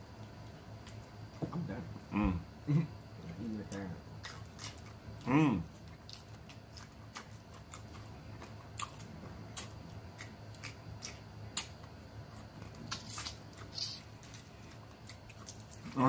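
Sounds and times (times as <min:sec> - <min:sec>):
people chewing and lip-smacking: 0:00.1 - 0:01.5, 0:02.7 - 0:16.0.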